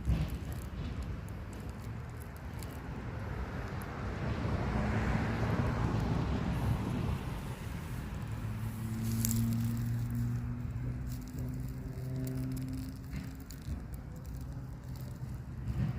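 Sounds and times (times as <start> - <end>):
vehicle passing: 0.0 - 15.9.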